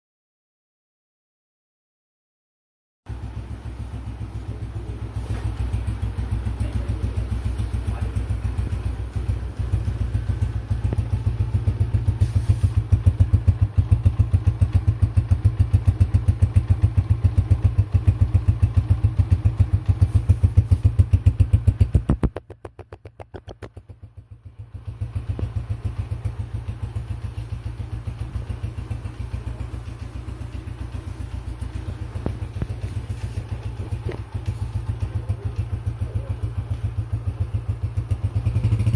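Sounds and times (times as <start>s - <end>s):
motorcycle engine exhaust beat: 3.1s - 38.9s.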